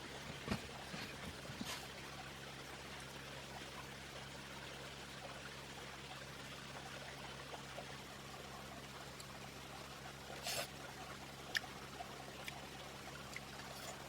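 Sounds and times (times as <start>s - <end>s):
low steady hum: 0.0s - 14.0s
trickle of running water: 0.0s - 14.0s.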